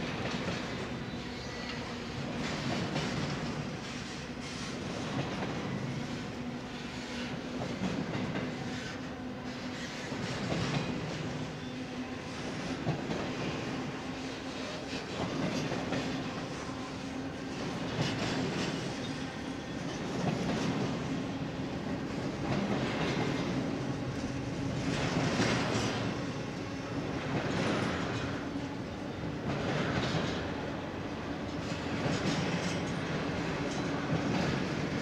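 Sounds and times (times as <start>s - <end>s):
train wheels clacking on rails: 0.0s - 35.0s.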